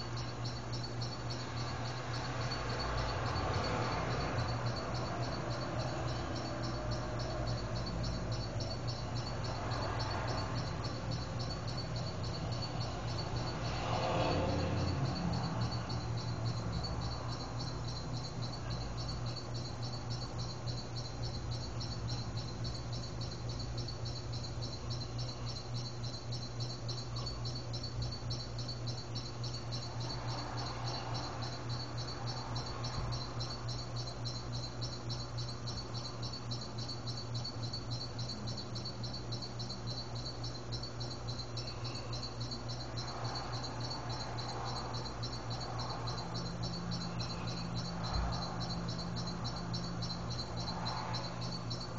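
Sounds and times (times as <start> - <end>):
insects chirping trill: 0.0 - 51.9.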